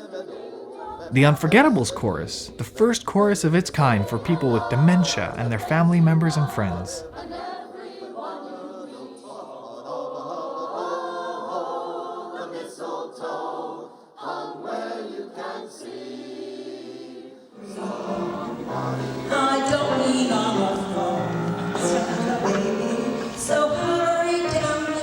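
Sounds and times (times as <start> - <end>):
chorus of people singing: 0.0 - 25.0.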